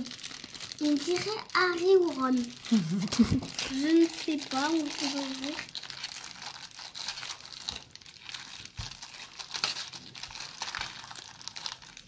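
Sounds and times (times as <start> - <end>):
plastic foil sachet crinkling: 0.0 - 12.0.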